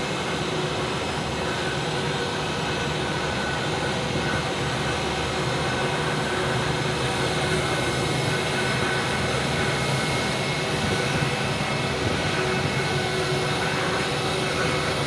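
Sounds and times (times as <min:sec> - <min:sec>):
jet engine cabin roar: 0:00.0 - 0:15.0.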